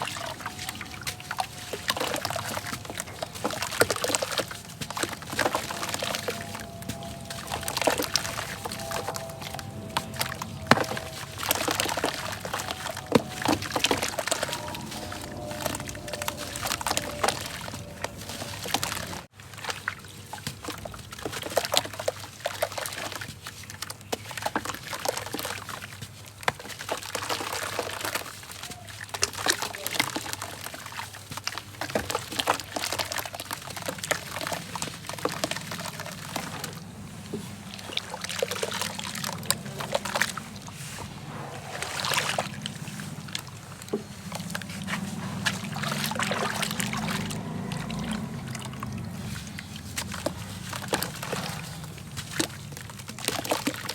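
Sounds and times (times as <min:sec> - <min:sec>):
pouring water: 0:00.0 - 0:23.3, 0:26.6 - 0:53.9.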